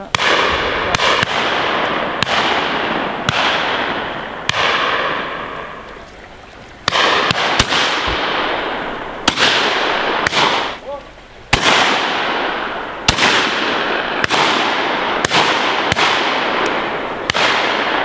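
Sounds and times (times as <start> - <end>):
shotgun shots echoing: 0.0 - 6.0, 6.8 - 18.0.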